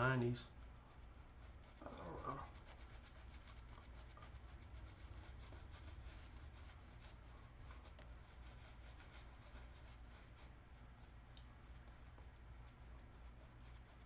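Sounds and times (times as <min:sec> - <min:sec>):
shaving brush rubbing lather: 0:00.0 - 0:14.0.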